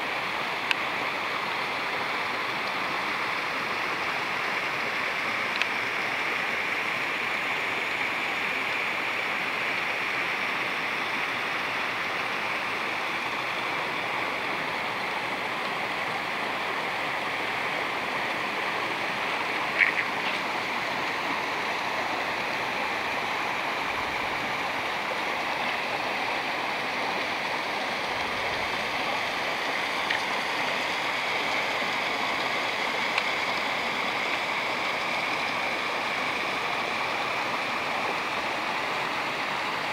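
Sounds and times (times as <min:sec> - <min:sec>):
stream rushing down a cascade: 0:00.0 - 0:39.9.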